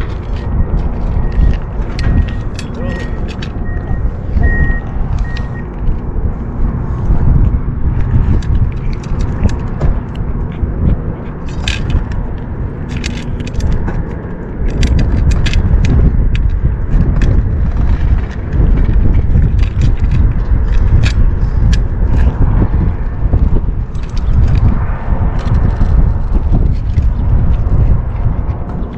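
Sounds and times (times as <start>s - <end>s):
sharp clicks and scrapes: 0.0s - 28.9s
wind buffeting microphone: 0.0s - 28.9s.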